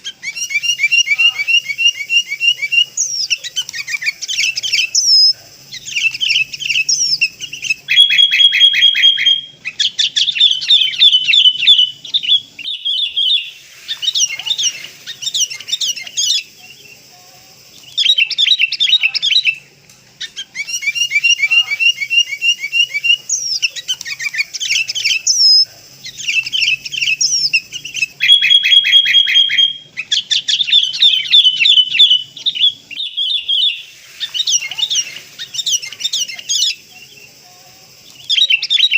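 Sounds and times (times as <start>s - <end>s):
held bird whistle: 0.0s - 16.5s, 20.2s - 37.0s, 38.2s - 38.9s
bird chattering and trilling: 0.0s - 38.9s.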